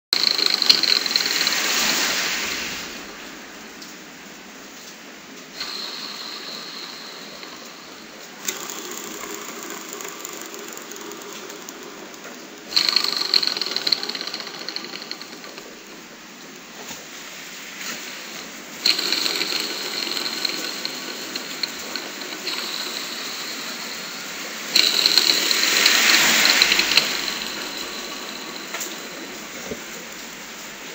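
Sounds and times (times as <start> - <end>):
engine revving with mechanical rattle: 0.1 - 3.8, 5.6 - 16.0, 17.8 - 30.9.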